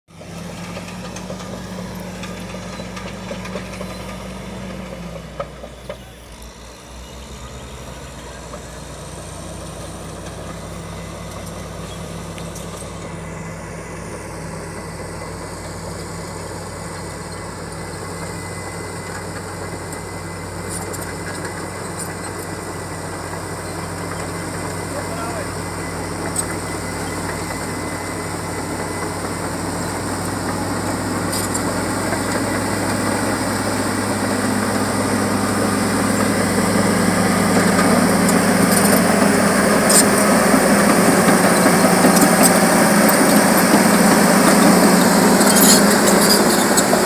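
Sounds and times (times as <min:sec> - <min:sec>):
engine knocks: 0:00.1 - 0:06.0, 0:15.0 - 0:47.0
bulldozer diesel engine running: 0:00.1 - 0:47.0.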